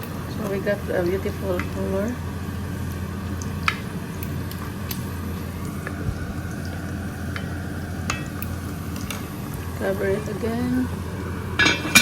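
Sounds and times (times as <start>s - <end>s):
steady low hum: 0.0s - 12.0s
stew boiling in a pot: 0.0s - 12.0s.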